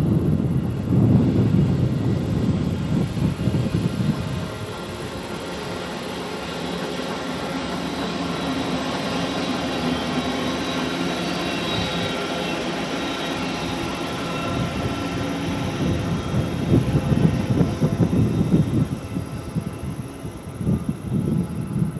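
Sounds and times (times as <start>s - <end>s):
electric train rumbling past: 0.0s - 21.9s
traction motor whine: 0.1s - 21.6s.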